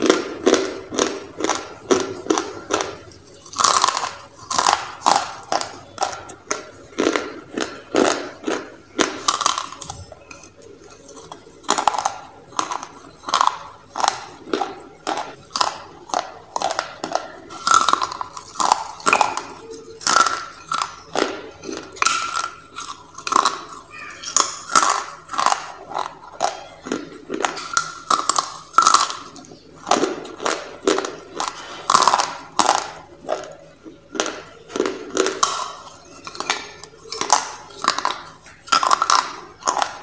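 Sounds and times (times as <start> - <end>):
dry clay being chewed: 0.0 - 40.0.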